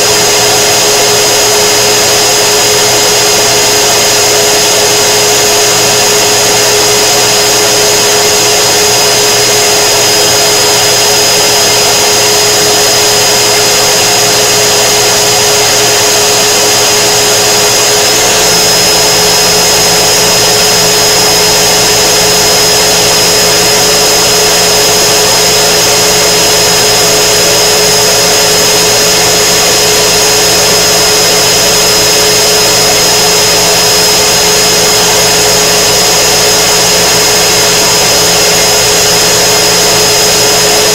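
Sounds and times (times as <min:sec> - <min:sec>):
laser cutter fans whirring: 0:00.0 - 0:40.9.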